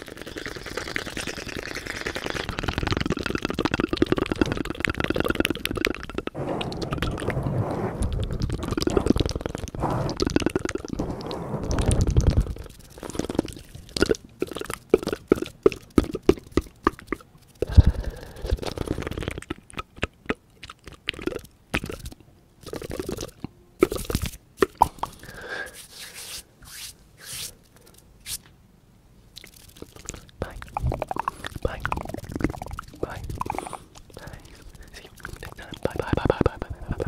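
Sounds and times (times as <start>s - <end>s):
fingers flicked across lips: 0.0s - 7.3s, 8.0s - 25.5s, 29.4s - 37.0s
mouth clicks and tongue flutters: 0.0s - 28.5s, 29.3s - 37.0s.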